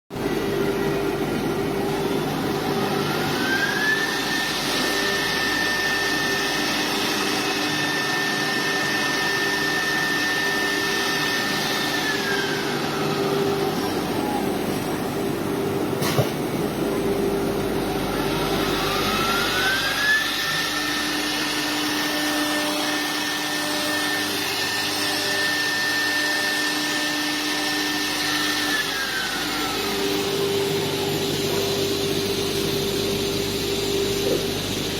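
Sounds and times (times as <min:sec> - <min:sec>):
machine noise and low hum: 0:00.1 - 0:34.9.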